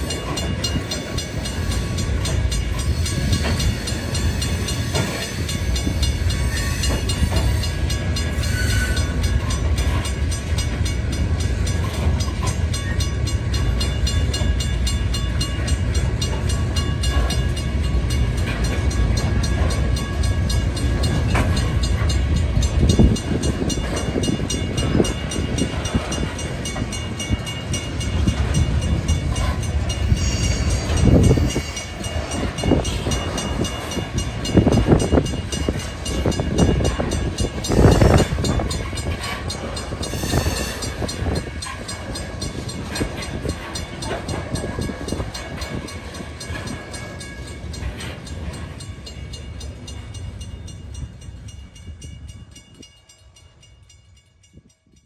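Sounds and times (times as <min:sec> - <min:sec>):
crossing signal ringing: 0:00.0 - 0:54.8
freight cars rumbling on rails: 0:00.0 - 0:54.9.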